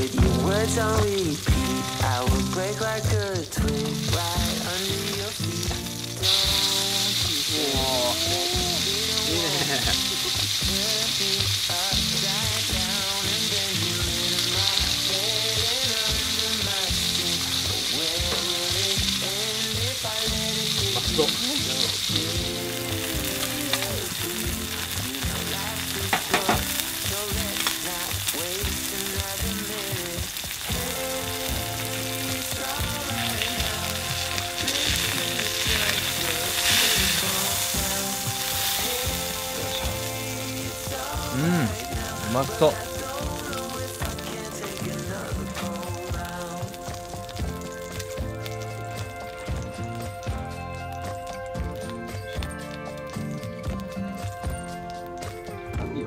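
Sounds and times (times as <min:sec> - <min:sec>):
background song: 0:00.0 - 0:56.0
steak sizzling on iron plate: 0:00.0 - 0:56.0.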